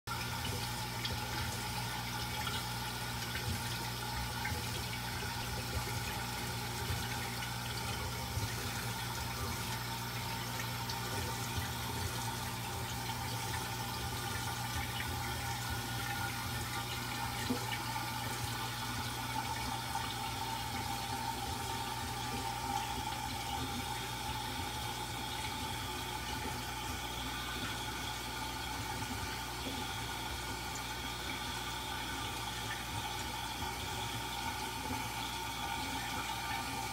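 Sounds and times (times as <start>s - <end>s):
low pump hum: 0.1s - 36.9s
water running into a tank: 0.1s - 36.9s.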